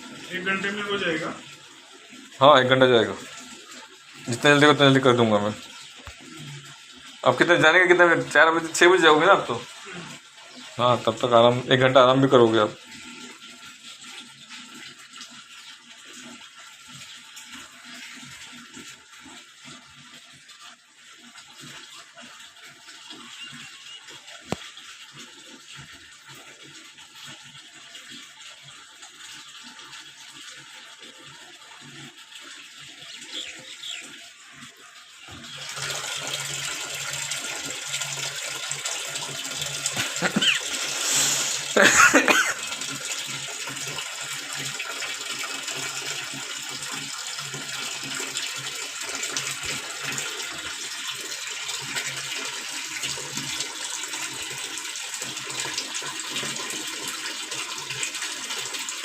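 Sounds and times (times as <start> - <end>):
water rushing into tub: 0.0 - 59.0.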